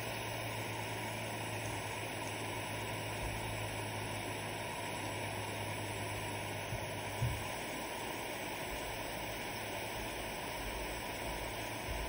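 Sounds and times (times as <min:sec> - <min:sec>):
soldering iron hissing: 0:00.0 - 0:12.0.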